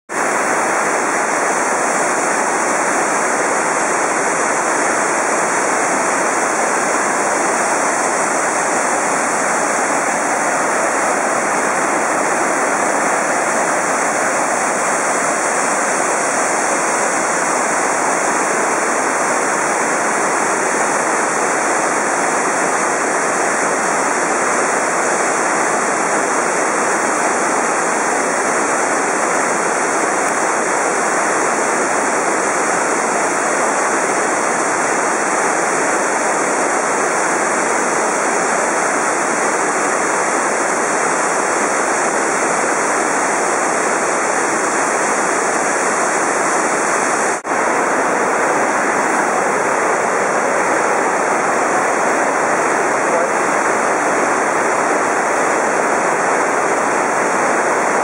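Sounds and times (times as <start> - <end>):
waterfall rushing over rock: 0.1 - 58.0.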